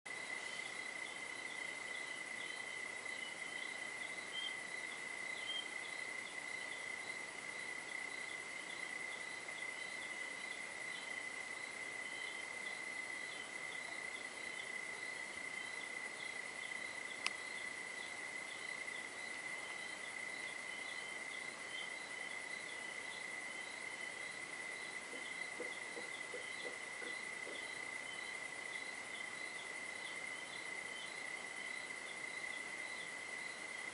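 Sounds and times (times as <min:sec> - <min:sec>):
cricket trill: 0:00.1 - 0:33.9
rhythmic insect chirping: 0:00.1 - 0:33.9.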